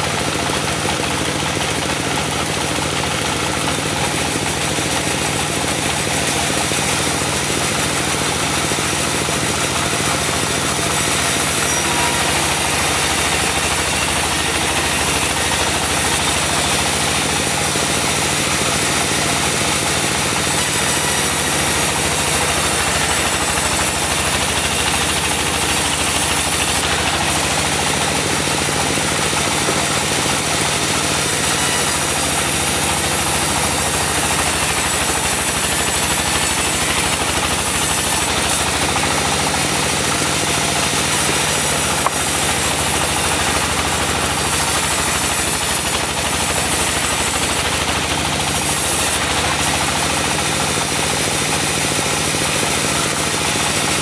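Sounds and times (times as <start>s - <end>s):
diesel engine drone: 3.6s - 54.0s
saw blade hissing through wood: 5.5s - 54.0s.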